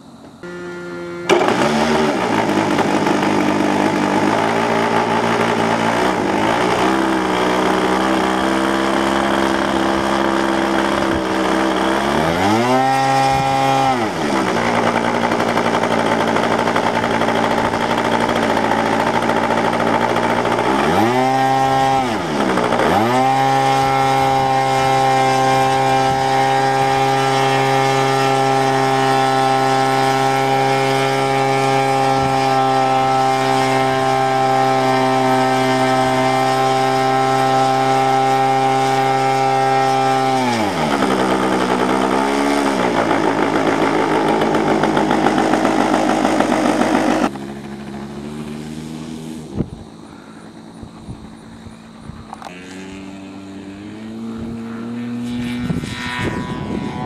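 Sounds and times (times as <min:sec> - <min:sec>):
model plane engine revving: 0:00.0 - 0:57.0.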